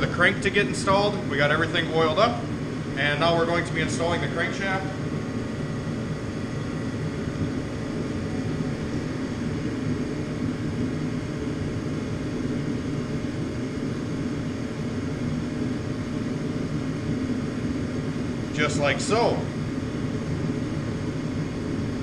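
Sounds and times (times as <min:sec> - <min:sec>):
steady low droning noise: 0:00.0 - 0:22.0.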